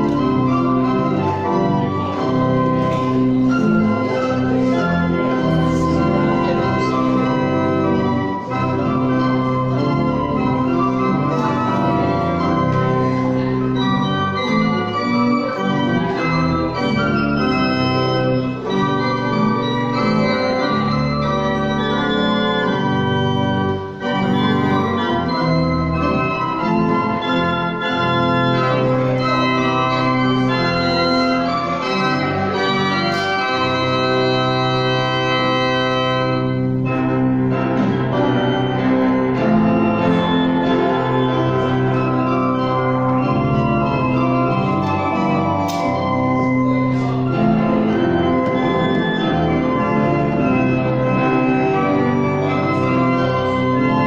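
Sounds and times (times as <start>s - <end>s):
pipe organ chords: 0.0s - 54.0s.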